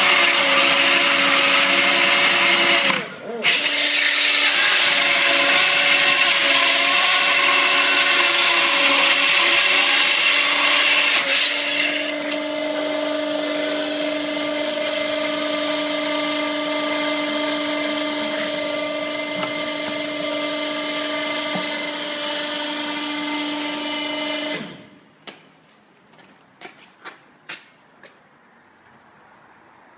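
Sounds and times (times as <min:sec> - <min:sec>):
chainsaw cutting concrete: 0:00.0 - 0:24.7.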